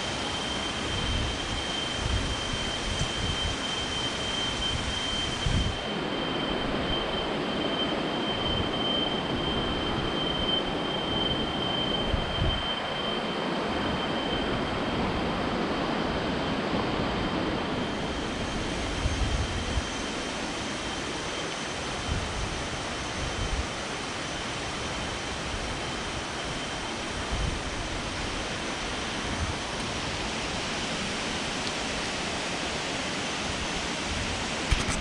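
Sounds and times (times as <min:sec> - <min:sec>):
high whine: 0:00.0 - 0:35.0.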